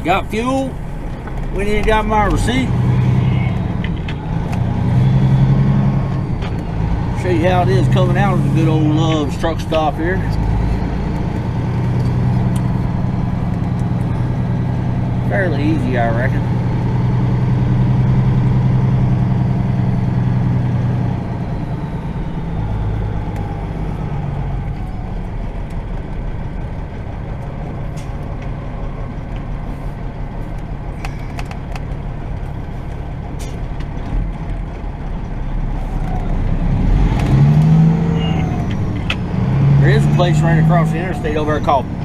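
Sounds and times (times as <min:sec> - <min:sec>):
diesel truck engine running: 0:00.0 - 0:42.0.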